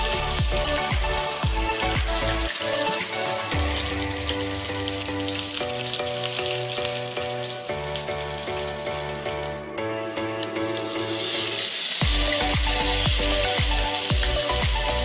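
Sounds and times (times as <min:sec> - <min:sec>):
background music: 0:00.0 - 0:15.0
vegetables frying in hot oil: 0:00.0 - 0:15.0.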